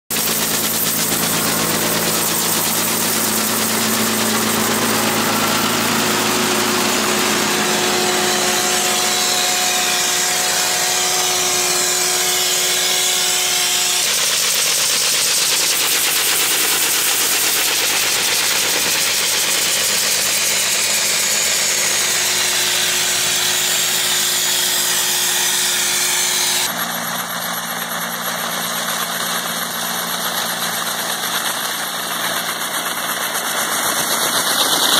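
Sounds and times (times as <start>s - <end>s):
tractor engine running: 0.1s - 26.0s, 26.6s - 34.9s.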